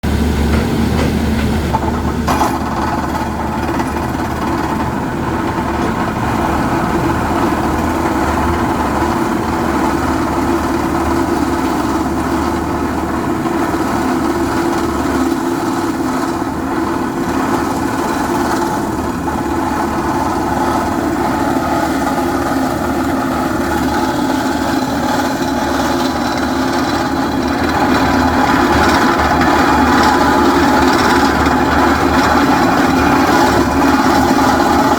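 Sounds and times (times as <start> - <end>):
drilling rig grinding concrete: 0.0 - 34.9.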